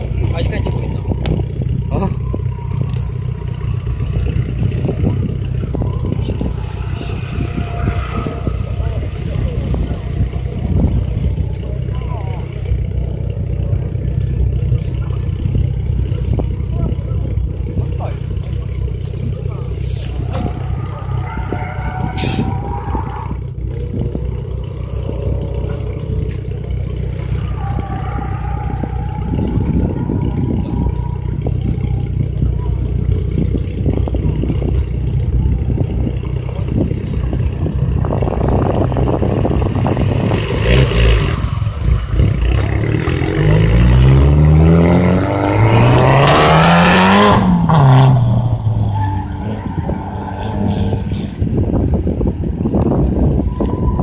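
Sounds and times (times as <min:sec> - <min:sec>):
rally car engine droning: 0:00.0 - 0:54.0.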